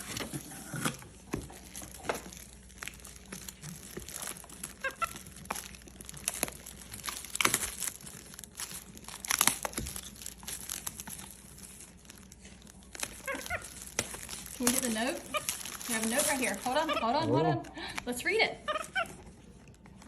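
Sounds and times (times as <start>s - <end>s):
packaging crinkling and tearing: 0.0s - 18.1s.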